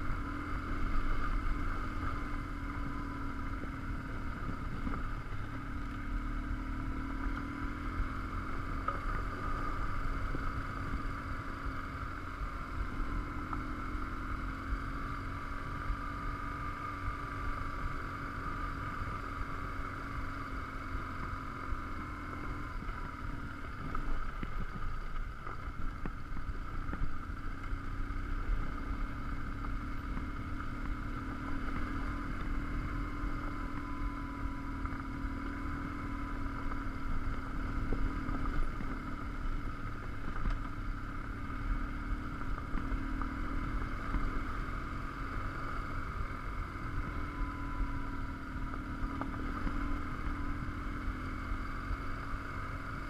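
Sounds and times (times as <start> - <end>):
wind and gravel rumble: 0.0 - 13.8, 21.3 - 53.0
motorcycle engine running: 0.0 - 53.0.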